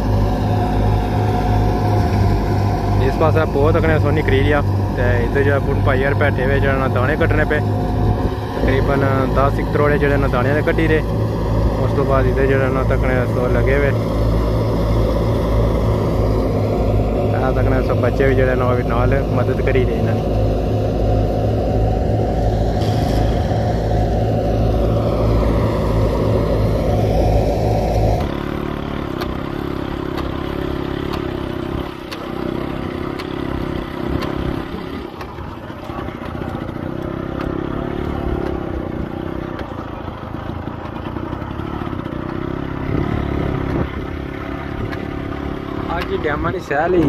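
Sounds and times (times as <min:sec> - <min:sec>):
threshing machine drone with clatter: 0:00.0 - 0:47.0.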